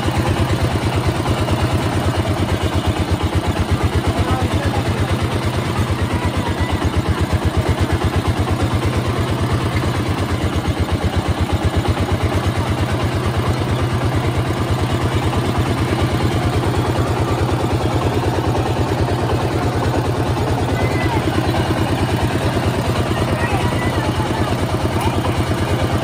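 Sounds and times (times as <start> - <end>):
small engine chugging: 0.0 - 26.0.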